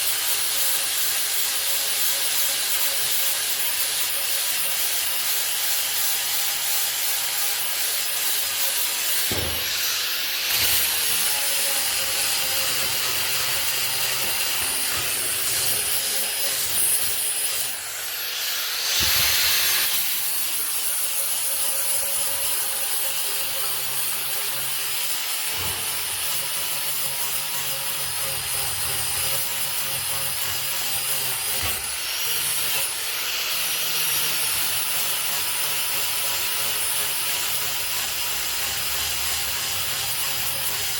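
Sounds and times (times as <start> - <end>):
angle grinder sanding wood: 0.0 - 38.6.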